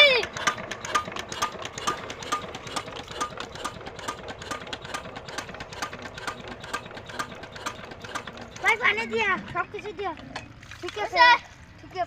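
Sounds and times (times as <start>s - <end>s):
single-cylinder pump engine idling: 0.0s - 10.6s.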